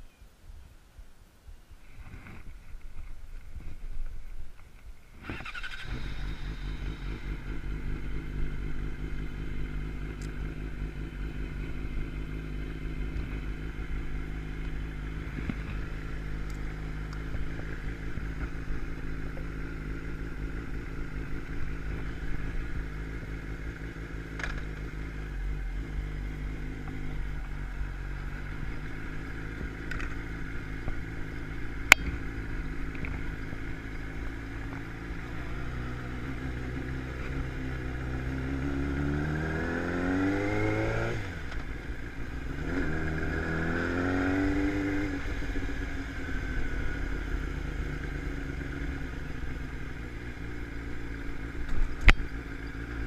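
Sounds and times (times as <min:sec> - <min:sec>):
motorcycle engine starting and idling: 0:02.0 - 0:53.0.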